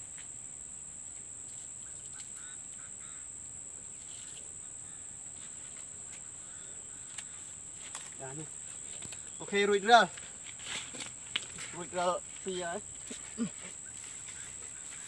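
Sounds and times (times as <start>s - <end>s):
high-pitched insect chorus: 0.0s - 15.0s
faint chirping calls: 1.0s - 10.4s, 11.1s - 15.0s.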